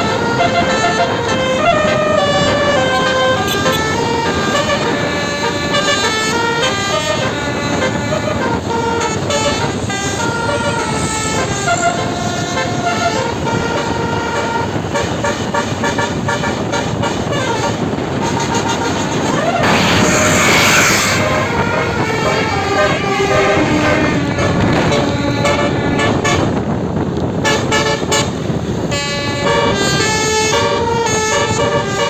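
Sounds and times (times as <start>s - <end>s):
bus horn playing a tune: 0.0s - 32.0s.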